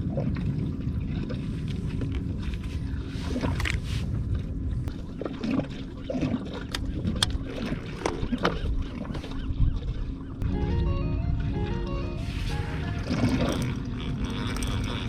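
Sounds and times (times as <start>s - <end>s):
water lapping against plastic hull: 0.0s - 10.4s, 12.5s - 15.0s.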